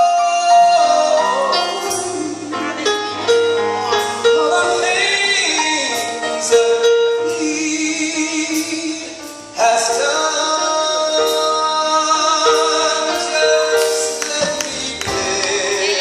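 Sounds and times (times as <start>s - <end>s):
man singing into a microphone: 0.0s - 3.1s, 3.9s - 16.0s.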